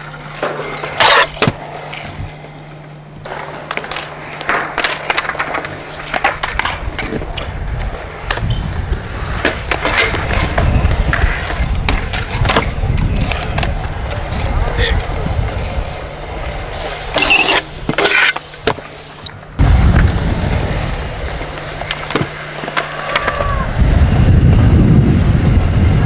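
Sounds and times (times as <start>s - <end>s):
scooter wheels rolling on concrete: 0.0s - 26.0s.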